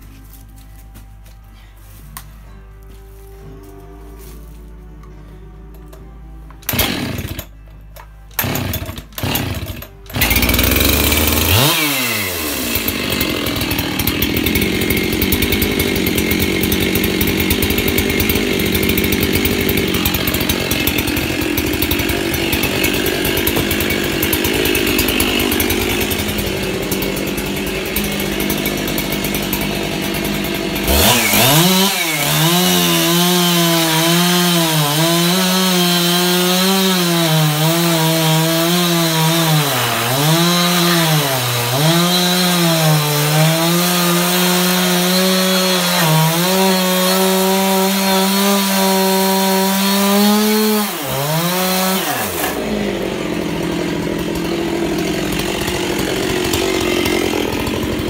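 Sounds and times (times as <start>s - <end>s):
chainsaw cutting wood: 6.6s - 58.0s.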